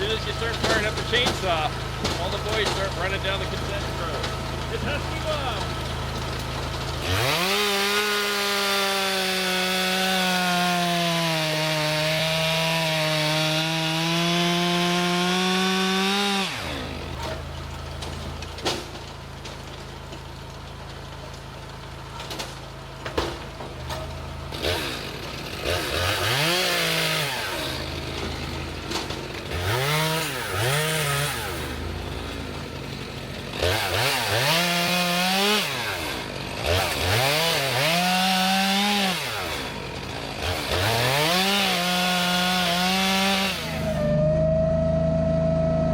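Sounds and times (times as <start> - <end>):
chainsaw revving: 0.0 - 19.2, 21.9 - 44.2
chainsaw idling with knocks: 0.0 - 44.0
chainsaw cutting through log: 0.0 - 44.2.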